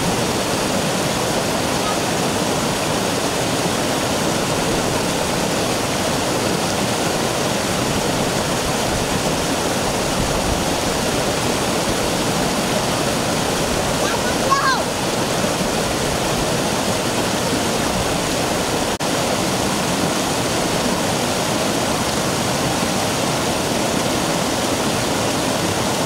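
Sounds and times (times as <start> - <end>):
stream rushing over rock: 0.0 - 26.0.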